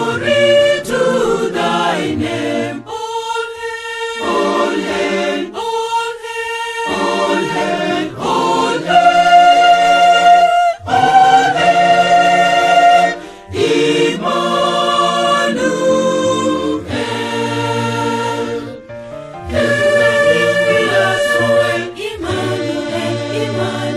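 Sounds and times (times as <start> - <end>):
mixed choir singing a hymn: 0.0 - 23.9.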